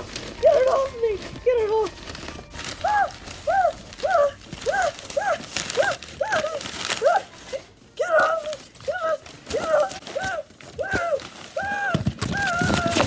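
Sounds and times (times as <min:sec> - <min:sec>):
paper bills rustling and crumpling: 0:00.0 - 0:13.0.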